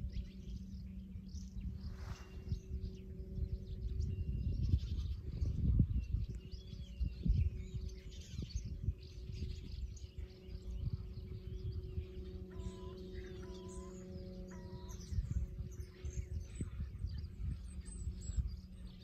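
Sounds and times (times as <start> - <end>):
small birds chirping: 0.0 - 19.0
wind gusts on microphone: 0.0 - 19.0.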